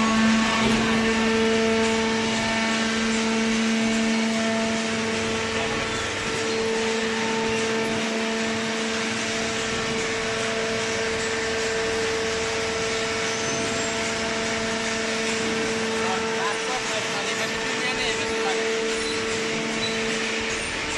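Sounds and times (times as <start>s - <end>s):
baling machine humming: 0.0s - 20.9s.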